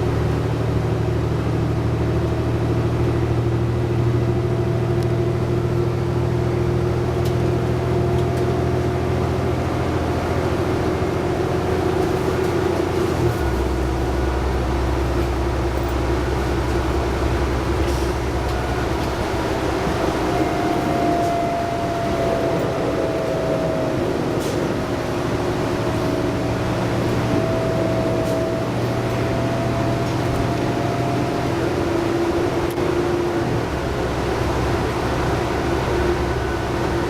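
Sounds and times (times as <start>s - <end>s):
bus engine and road noise: 0.0s - 37.0s
whine: 7.2s - 37.0s.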